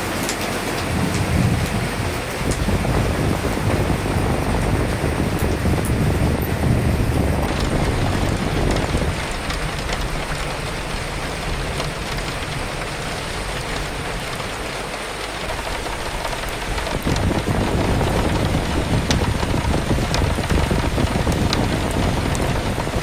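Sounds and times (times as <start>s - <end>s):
gusting wind: 0.0s - 23.0s
steady rain: 0.0s - 23.0s.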